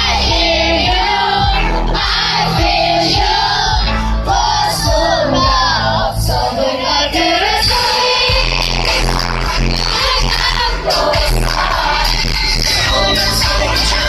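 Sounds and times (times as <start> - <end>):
group singing pop song: 0.0 - 14.0
pounding bass beat: 0.0 - 14.0.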